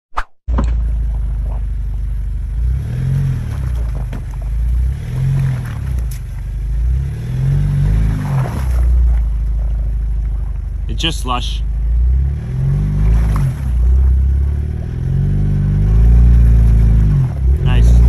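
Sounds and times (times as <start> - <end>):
engine revving: 0.6 - 18.0.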